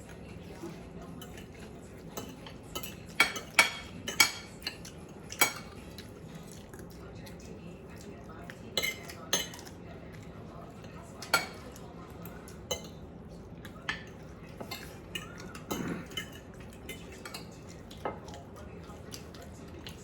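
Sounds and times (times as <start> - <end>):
utensils clinking against dishes: 0.0 - 20.0.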